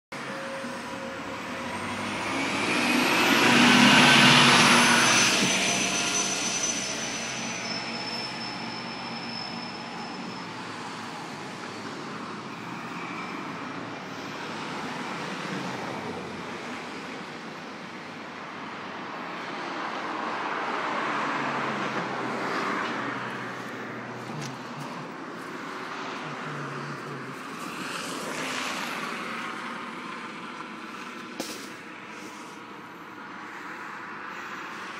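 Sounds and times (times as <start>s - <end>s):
bus engine and road noise: 0.1s - 34.9s.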